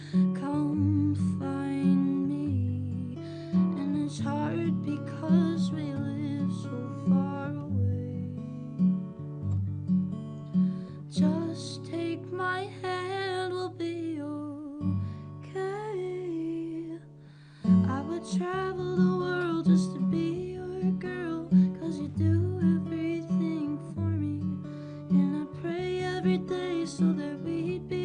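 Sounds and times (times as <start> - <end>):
woman singing: 0.0 - 9.1, 10.9 - 28.0.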